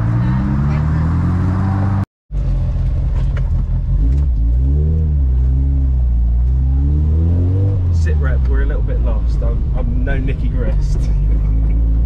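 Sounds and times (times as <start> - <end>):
car engine heard from cabin: 0.0 - 12.0
car engine running: 2.3 - 12.0.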